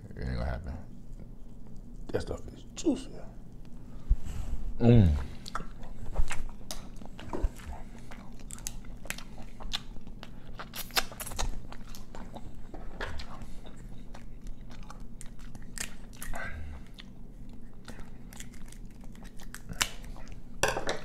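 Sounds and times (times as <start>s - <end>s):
steady low hum: 0.0s - 21.0s
close chewing and mouth sounds: 0.7s - 2.7s, 5.1s - 20.6s.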